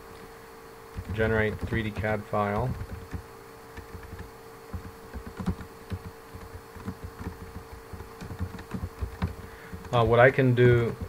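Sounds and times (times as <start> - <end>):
steady hum: 0.0 - 11.0
computer keyboard typing: 0.9 - 11.0.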